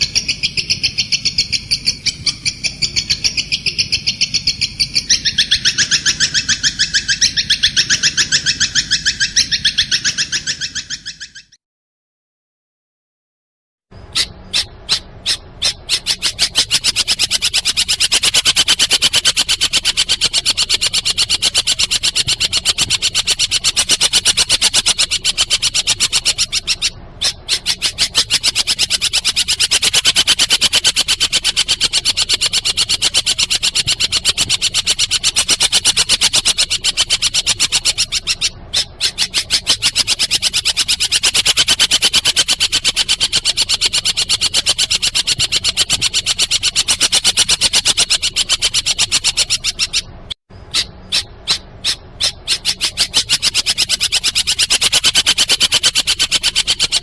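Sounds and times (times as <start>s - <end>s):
shrill bird call chirps: 0.0s - 11.6s, 13.9s - 57.0s.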